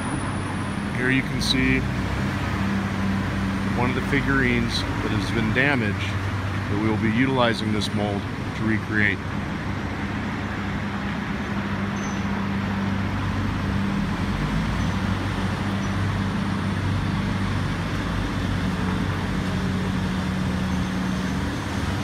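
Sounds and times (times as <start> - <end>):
low engine hum: 0.0 - 22.0
street traffic noise: 0.0 - 22.0.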